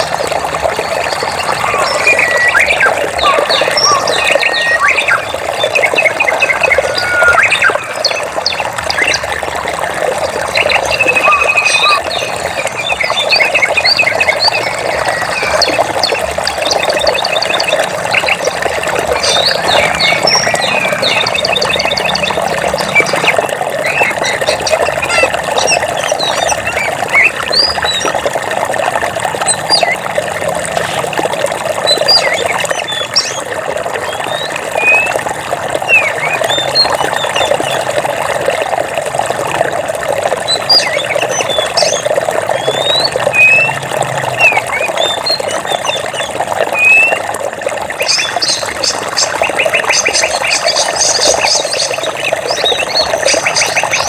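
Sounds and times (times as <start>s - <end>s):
birds chirping and trilling: 0.0s - 9.5s, 10.2s - 28.3s, 29.4s - 30.1s, 31.8s - 38.0s, 40.4s - 47.2s, 47.9s - 54.0s
running water: 0.0s - 54.0s.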